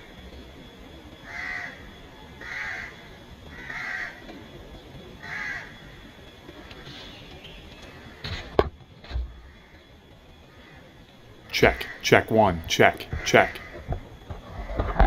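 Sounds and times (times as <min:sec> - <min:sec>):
bird calling: 0:01.2 - 0:15.0.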